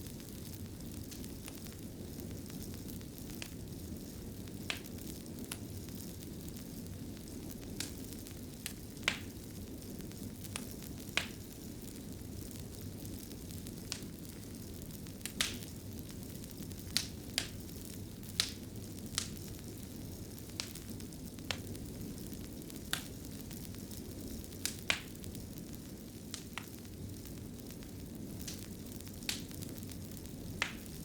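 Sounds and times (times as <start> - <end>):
fire popping: 0.0 - 31.0
low rush of flames: 0.0 - 31.0.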